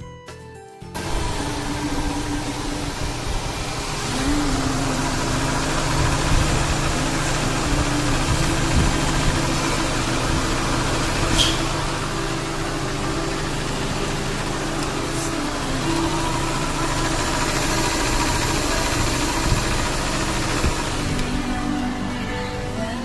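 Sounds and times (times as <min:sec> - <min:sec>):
car engine idling: 0:01.0 - 0:23.0.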